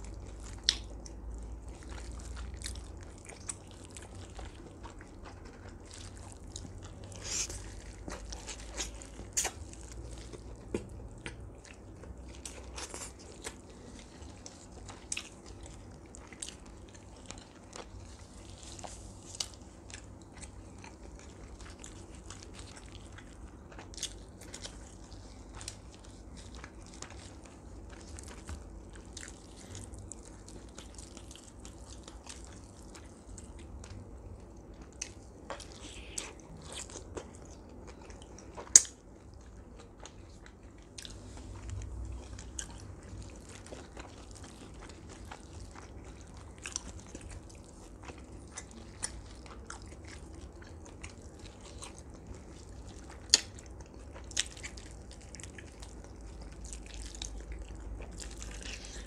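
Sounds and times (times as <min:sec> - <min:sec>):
chewing: 0:00.0 - 0:59.0
low steady hum: 0:00.0 - 0:59.0
meat tearing crackles: 0:00.1 - 0:59.0.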